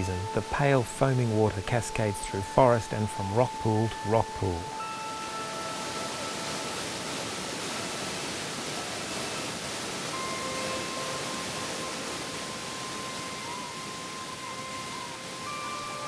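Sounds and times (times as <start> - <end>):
faint background music: 0.0 - 16.0
waterfall rushing: 0.0 - 16.0.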